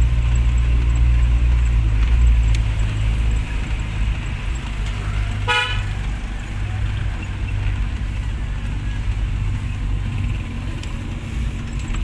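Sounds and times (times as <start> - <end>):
deep car exhaust drone: 0.0 - 12.0.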